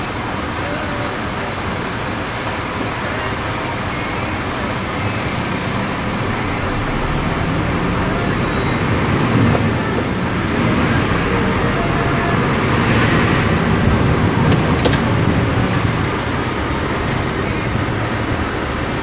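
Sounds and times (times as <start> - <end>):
diesel truck engine running: 0.0 - 19.0
road noise: 0.0 - 19.0.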